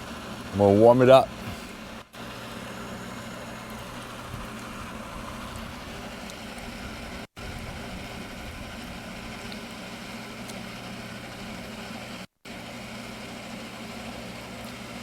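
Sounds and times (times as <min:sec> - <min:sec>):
mechanical hum with electric buzz: 0:00.0 - 0:15.0.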